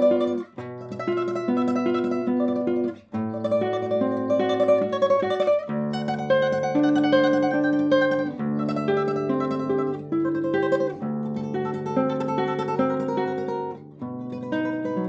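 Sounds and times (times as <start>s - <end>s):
classical guitar tremolo melody: 0.0s - 15.0s.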